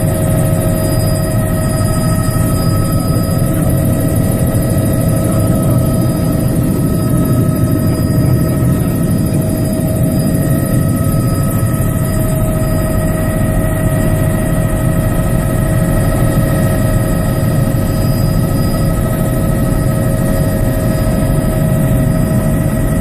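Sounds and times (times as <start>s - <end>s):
helicopter cabin whine and rumble: 0.0s - 23.0s.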